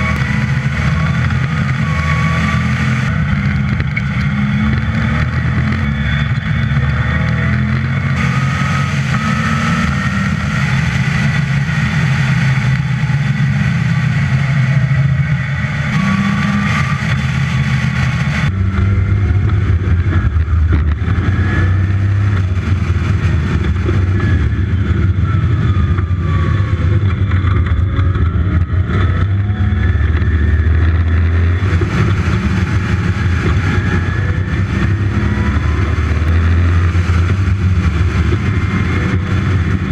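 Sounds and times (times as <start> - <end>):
engine running hard: 0.0 - 39.9.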